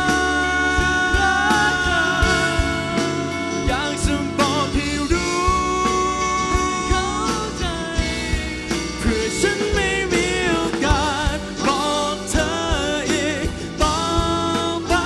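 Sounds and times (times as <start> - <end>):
electric guitars: 0.0 - 15.0
man singing with vibrato: 0.0 - 15.0.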